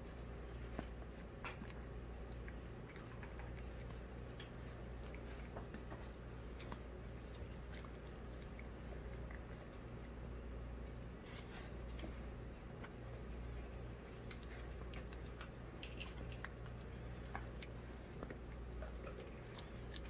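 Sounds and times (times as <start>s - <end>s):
dog eating wet food: 0.0s - 20.0s
steady low hum: 0.0s - 20.0s.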